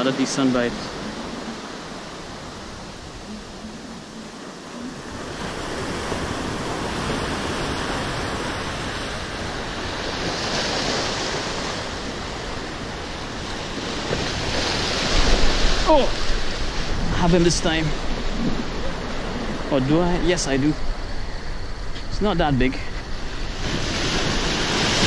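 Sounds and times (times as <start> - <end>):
ocean surf breaking: 0.0 - 25.0
wind on microphone: 0.7 - 25.0.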